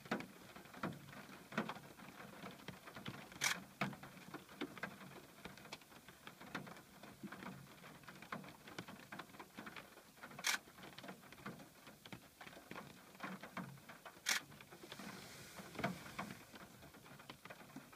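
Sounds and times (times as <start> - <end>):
rain pattering on glass: 0.0 - 17.9.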